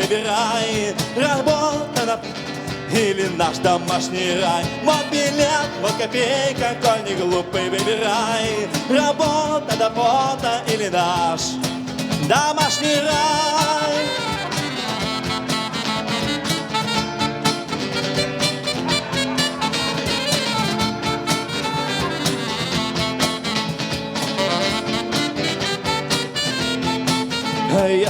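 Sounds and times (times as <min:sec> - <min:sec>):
band playing instrumental: 0:00.0 - 0:28.0
steady drum beat: 0:00.0 - 0:28.0.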